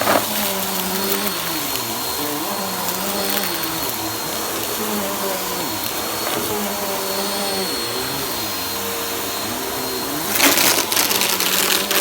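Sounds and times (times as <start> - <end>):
vacuum cleaner whine: 0.0 - 12.0.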